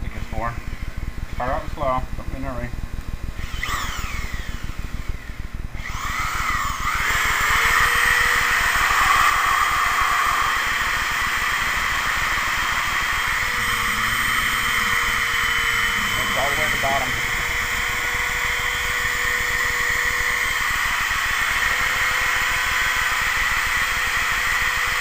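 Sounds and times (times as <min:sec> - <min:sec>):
electric drill mixing thick paste: 0:00.2 - 0:25.0.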